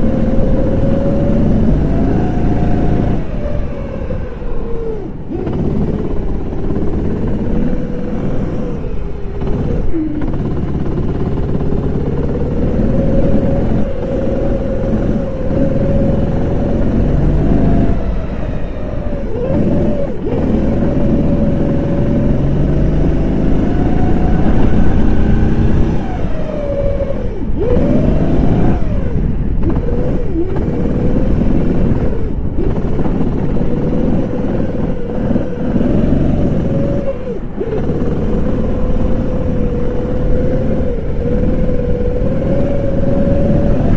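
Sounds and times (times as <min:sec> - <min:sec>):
kart engine at high revs: 0:00.0 - 0:43.9.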